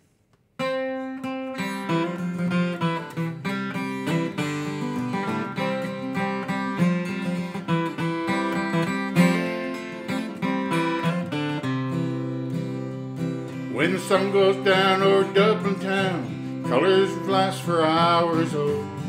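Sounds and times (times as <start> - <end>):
acoustic guitar playing: 0.6 - 19.0.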